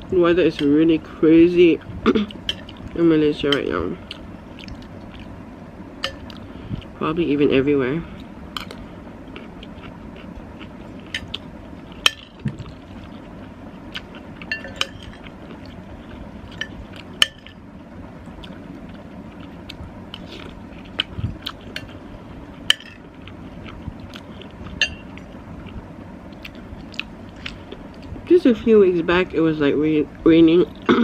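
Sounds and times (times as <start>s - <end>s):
quiet eating sounds: 0.0s - 28.6s
low hum: 0.0s - 31.0s.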